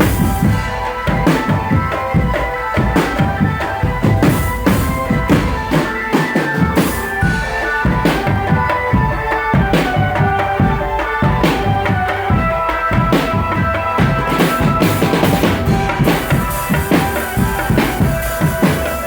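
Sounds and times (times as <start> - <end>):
melody of held notes: 0.0 - 19.0
snare and bass drums: 0.0 - 19.0.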